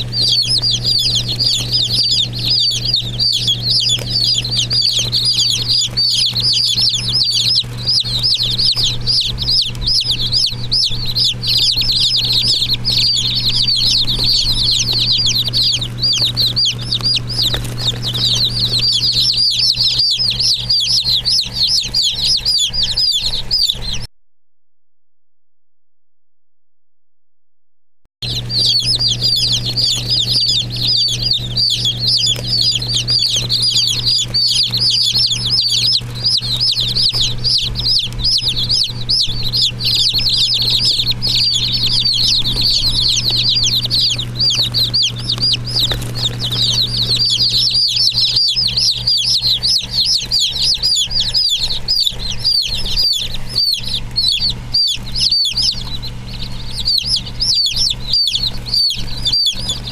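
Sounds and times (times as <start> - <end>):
baby chicks peeping: 0.0 - 24.1, 28.2 - 59.9
steady low hum: 0.0 - 24.1, 28.2 - 59.9.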